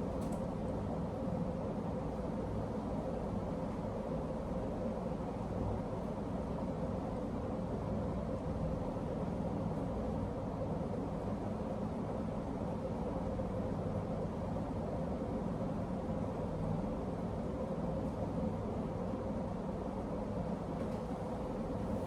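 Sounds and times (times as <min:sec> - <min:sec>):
ceiling fan air rush: 0:00.0 - 0:22.0.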